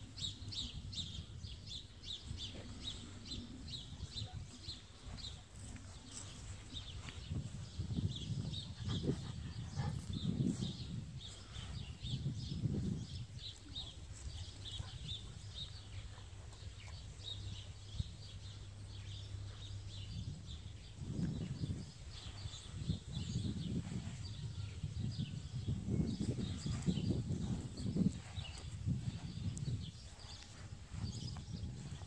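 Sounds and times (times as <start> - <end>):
small birds chirping: 0.0 - 32.0
wind buffeting microphone: 0.0 - 32.0.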